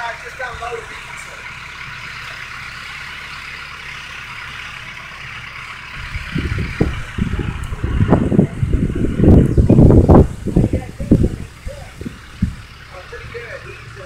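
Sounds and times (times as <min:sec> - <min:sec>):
loud low rumbling: 0:00.0 - 0:14.0
truck engine running: 0:00.0 - 0:14.0.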